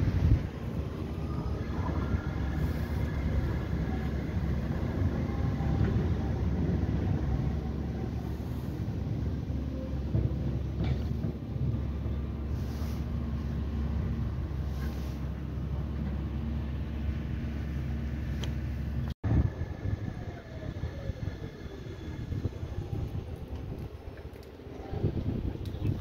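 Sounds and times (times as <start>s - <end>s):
tram motor whine and wheel noise: 0.0s - 26.0s.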